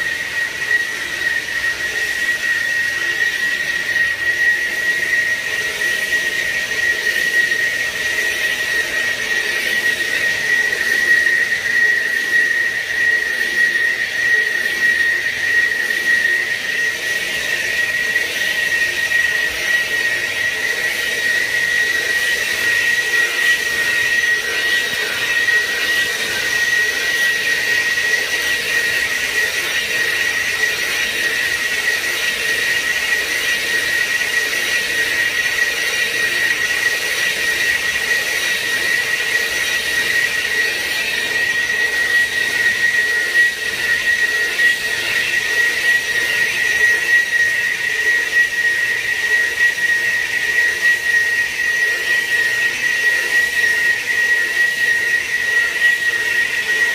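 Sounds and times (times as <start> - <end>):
lathe machining metal whine: 0.0 - 56.9.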